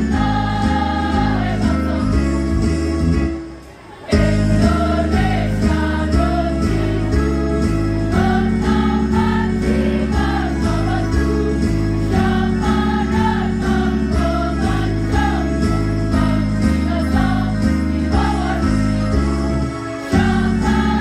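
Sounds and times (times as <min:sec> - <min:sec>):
women's choir singing: 0:00.0 - 0:02.6, 0:04.0 - 0:19.3, 0:20.0 - 0:21.0
instrumental accompaniment with beat: 0:00.0 - 0:21.0.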